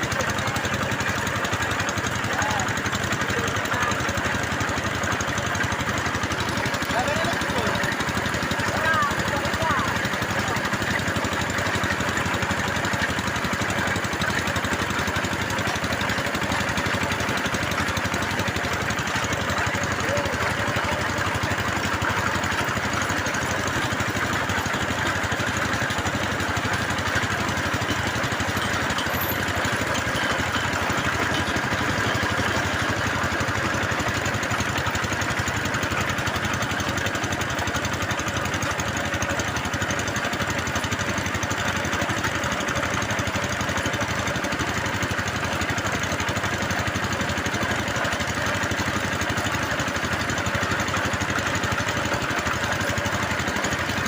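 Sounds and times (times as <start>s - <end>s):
drilling machine engine chugging: 0.0s - 54.0s.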